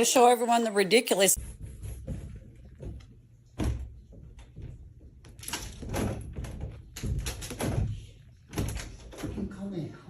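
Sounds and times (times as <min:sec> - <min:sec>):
knocks and thumps: 0:01.4 - 0:09.6.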